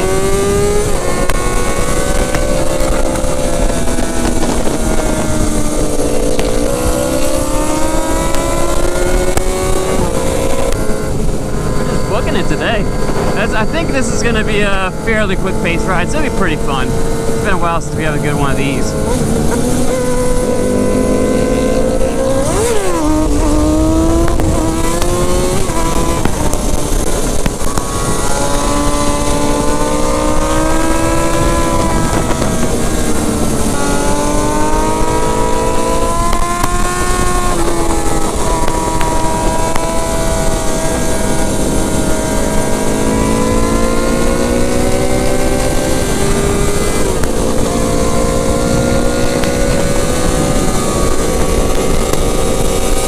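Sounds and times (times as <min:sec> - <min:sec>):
sport bike engine revving: 0:00.0 - 0:53.0
wind rush: 0:00.0 - 0:53.0.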